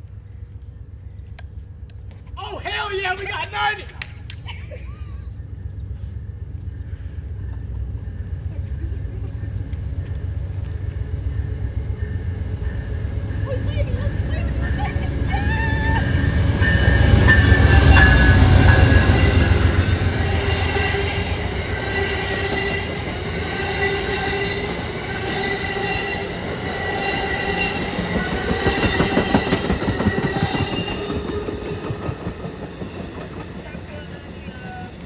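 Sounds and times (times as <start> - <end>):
train rumble: 0.0 - 35.0
train wheel squeal: 5.0 - 35.0
wheels clicking on rail joints: 5.8 - 35.0.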